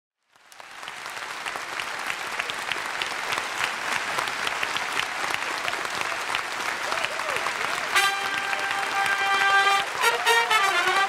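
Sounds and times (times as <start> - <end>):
audience applauding: 0.2 - 11.0.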